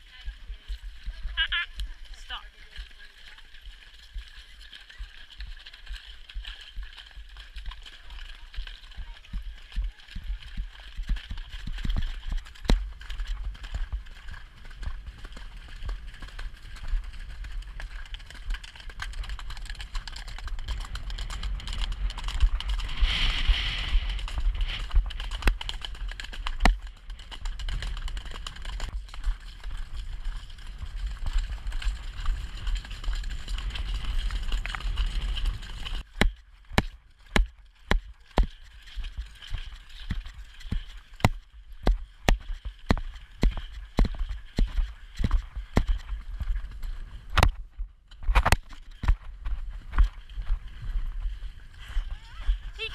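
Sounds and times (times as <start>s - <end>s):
horse hooves on muddy track: 0.0s - 52.9s.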